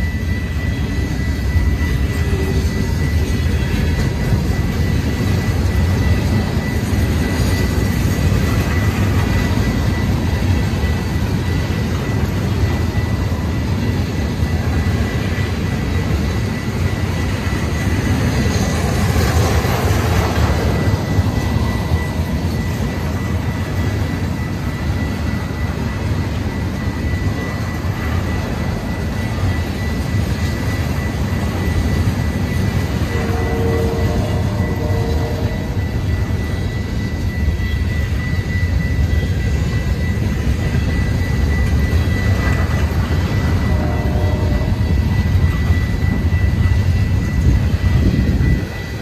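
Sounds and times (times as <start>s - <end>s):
freight train rumbling past: 0.0s - 49.0s
thin high tone: 0.0s - 49.0s.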